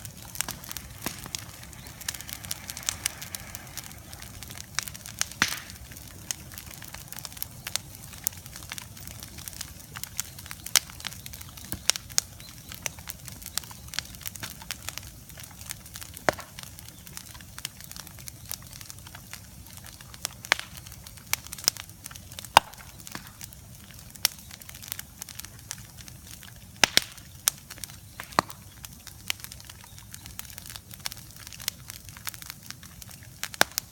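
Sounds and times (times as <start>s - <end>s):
low rush of burning: 0.0s - 27.2s
bonfire crackling and popping: 0.0s - 33.9s.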